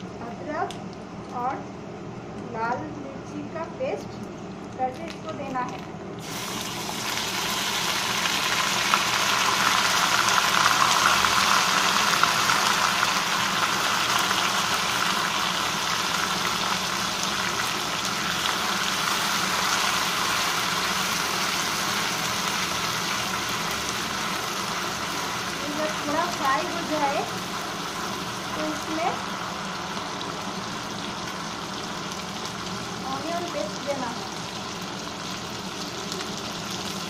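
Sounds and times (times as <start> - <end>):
paste sizzling in hot oil: 6.2 - 37.0.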